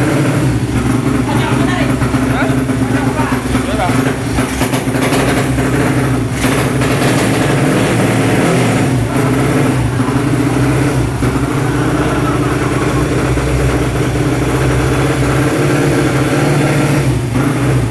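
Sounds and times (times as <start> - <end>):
motorcycle engine at low revs: 0.0 - 17.9.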